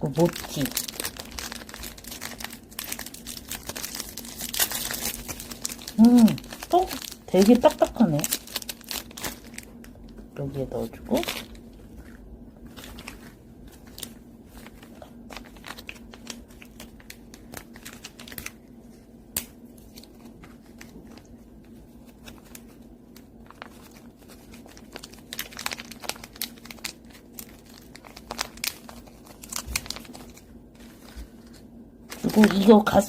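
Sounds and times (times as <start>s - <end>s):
faint low hum: 0.0s - 33.0s
plastic packets crinkling and tearing: 0.0s - 33.0s.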